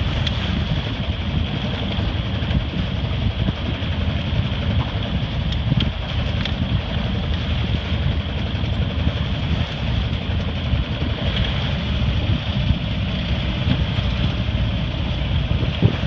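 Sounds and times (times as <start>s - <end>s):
boat engine running: 0.0s - 16.0s
wind on microphone: 0.0s - 16.0s.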